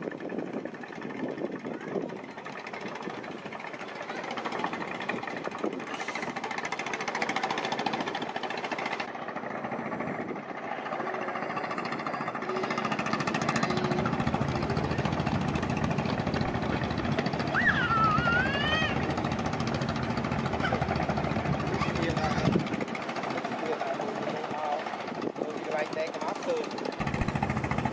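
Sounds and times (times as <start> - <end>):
boat engine knocking: 0.0 - 27.9.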